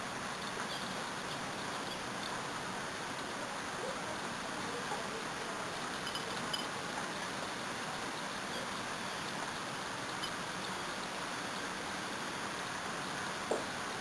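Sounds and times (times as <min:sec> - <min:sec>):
shower water hissing: 0:00.0 - 0:14.0.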